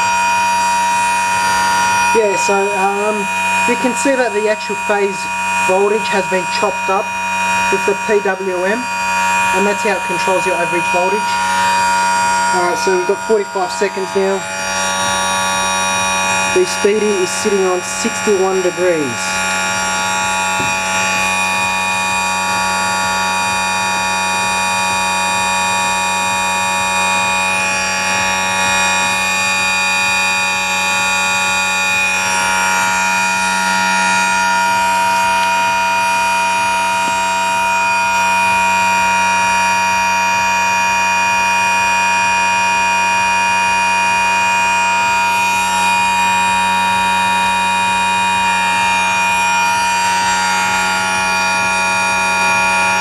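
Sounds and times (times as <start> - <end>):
electric motor whine: 0.0 - 53.0.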